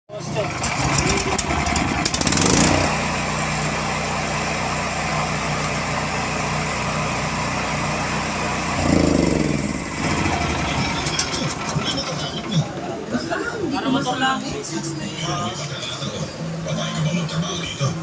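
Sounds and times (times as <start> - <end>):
generator engine running: 0.1 - 18.0.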